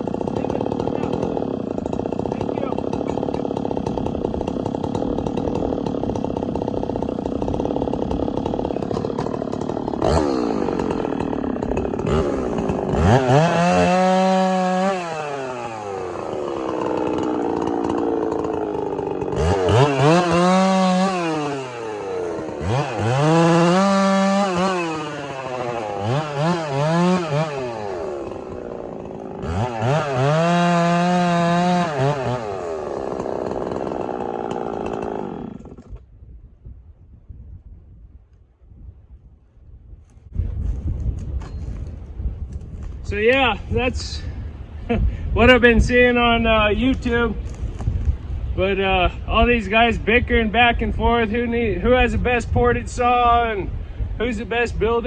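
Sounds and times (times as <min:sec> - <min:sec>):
chainsaw cutting wood: 0:00.0 - 0:36.2, 0:40.4 - 0:48.8.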